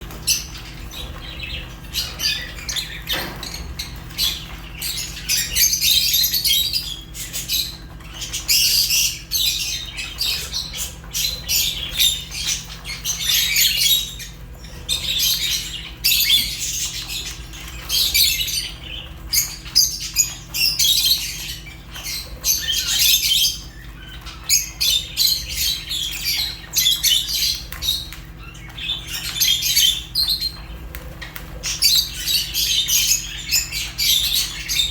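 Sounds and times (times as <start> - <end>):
lovebirds chirping and squawking: 0.0 - 34.9.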